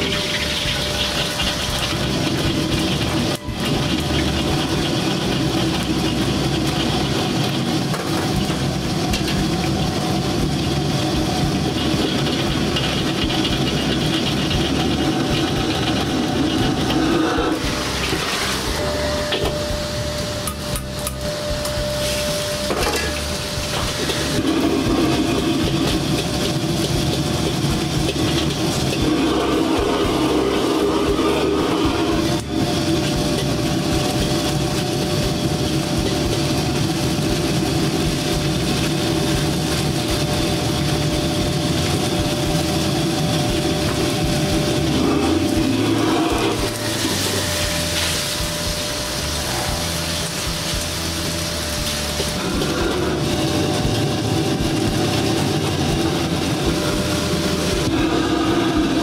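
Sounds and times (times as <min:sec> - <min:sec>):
beef sizzling in a wok: 0:00.0 - 0:59.0
gas burner rushing: 0:00.0 - 0:59.0.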